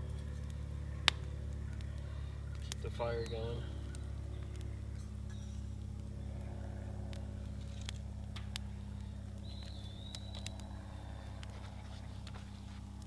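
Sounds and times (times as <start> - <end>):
campfire crackling and popping: 0.0 - 13.0
low hum: 0.0 - 13.0.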